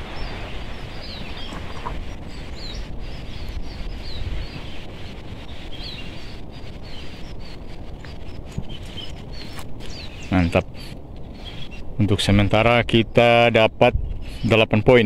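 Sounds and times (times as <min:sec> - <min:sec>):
rushing wind: 0:00.0 - 0:15.0
small birds chirping: 0:00.0 - 0:15.0.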